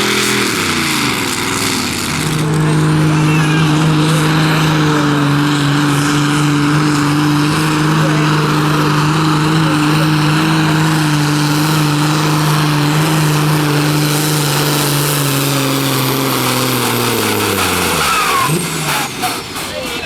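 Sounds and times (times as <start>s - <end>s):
tractor engine running flat out: 0.0s - 20.0s.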